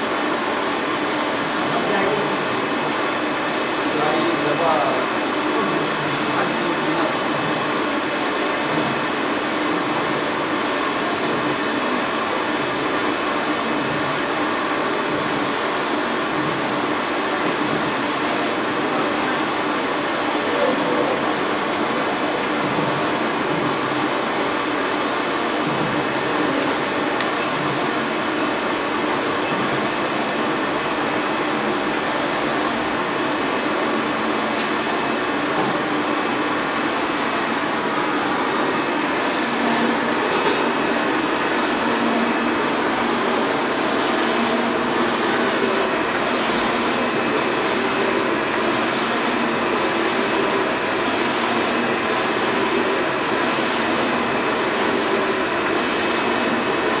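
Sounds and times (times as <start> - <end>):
printer running: 0.0 - 57.0.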